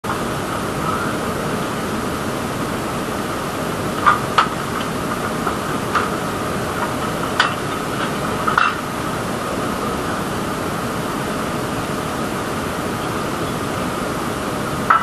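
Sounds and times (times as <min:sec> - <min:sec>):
steady mechanical noise: 0:00.0 - 0:15.0.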